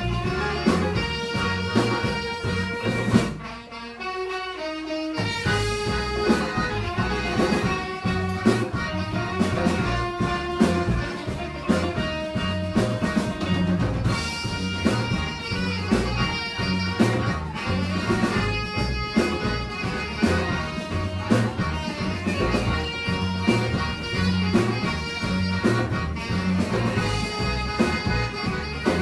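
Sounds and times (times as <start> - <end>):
live band playing instrumental: 0.0 - 29.0.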